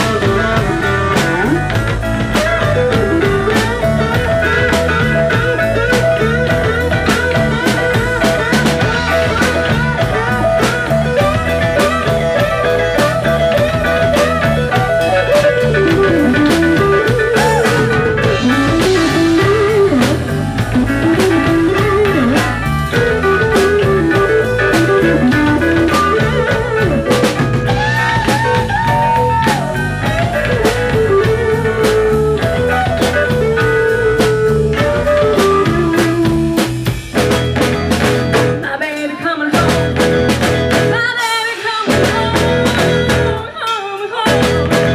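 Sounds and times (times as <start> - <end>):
drum kit: 0.0 - 44.9
electric guitar lead: 0.0 - 44.9.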